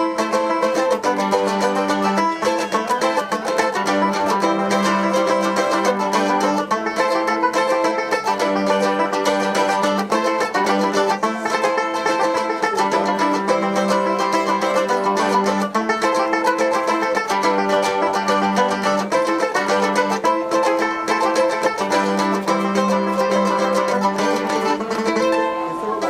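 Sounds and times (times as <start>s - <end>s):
fast-picked plucked strings: 0.0s - 26.0s.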